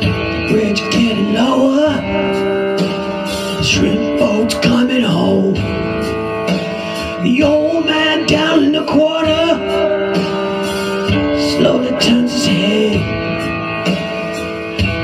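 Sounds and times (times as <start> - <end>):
rock band with guitar: 0.0 - 15.0
sliding lead melody: 0.0 - 15.0.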